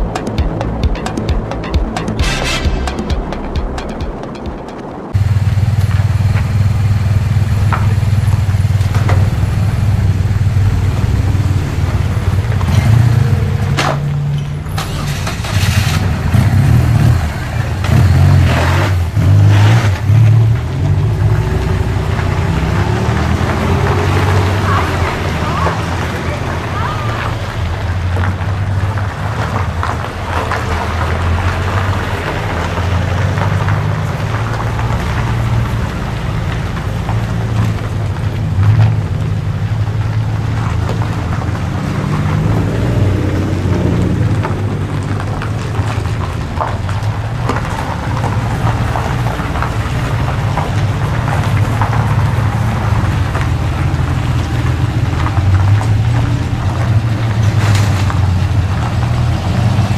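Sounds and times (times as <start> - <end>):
car engines rumbling past: 0.0 - 59.9.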